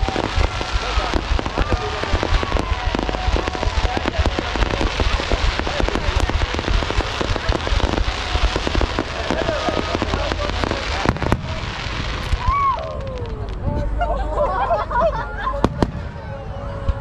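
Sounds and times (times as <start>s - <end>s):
fireworks bursting and crackling: 0.0s - 14.0s, 15.6s - 17.0s.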